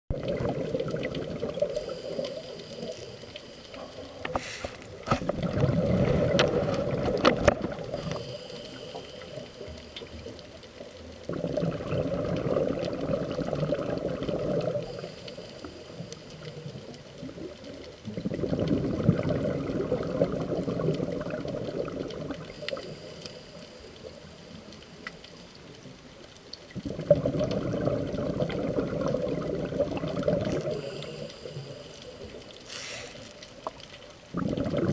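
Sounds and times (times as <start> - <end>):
underwater bubbles gurgling: 0.1 - 34.9
quiet breaths: 1.2 - 5.2, 6.0 - 11.3, 12.3 - 34.9.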